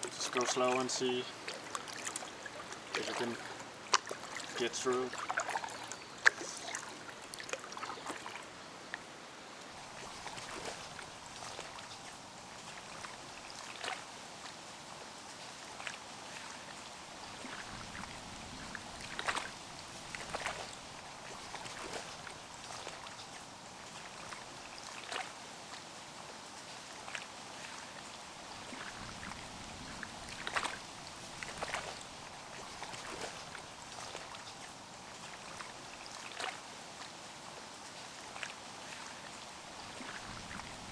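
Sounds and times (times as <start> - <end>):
paddle splashing water: 0.0 - 40.9
river water trickling: 0.0 - 40.9.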